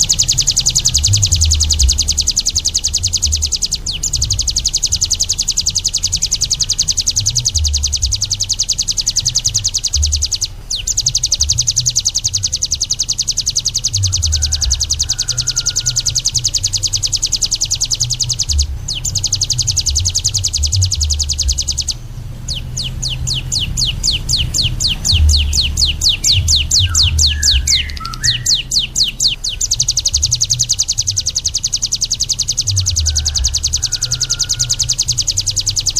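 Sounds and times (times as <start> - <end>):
low uneven pulsing: 0.0 - 35.9
songbird trilling: 0.0 - 35.9.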